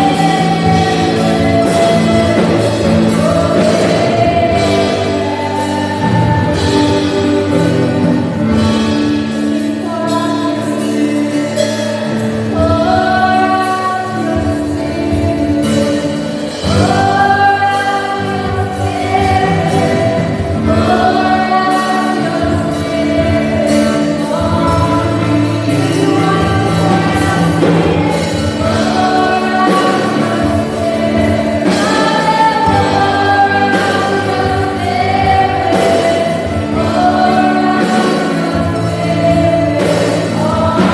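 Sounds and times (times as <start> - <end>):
drums: 0.0 - 40.9
group singing gospel song: 0.0 - 40.9
keyboard: 0.0 - 40.9.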